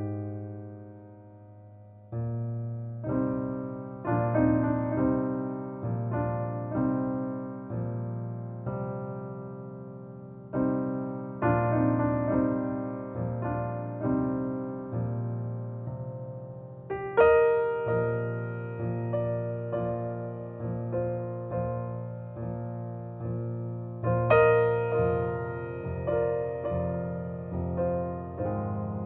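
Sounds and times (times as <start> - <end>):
slow solo piano piece: 0.0 - 29.0.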